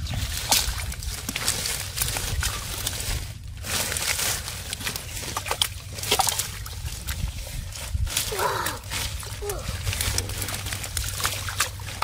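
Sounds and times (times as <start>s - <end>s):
muddy water sloshing and squelching: 0.0s - 12.0s
small splashes and clicks: 0.0s - 12.0s.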